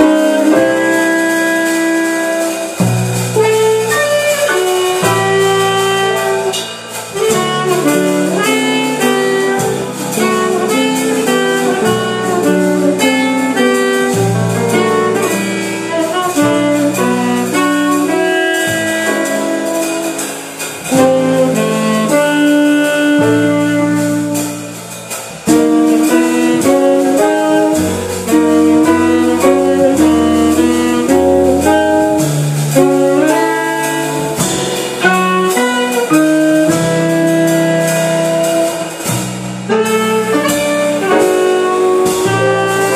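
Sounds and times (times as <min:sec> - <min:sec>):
saxophone: 0:00.0 - 0:42.9
small jazz combo playing: 0:00.0 - 0:42.9.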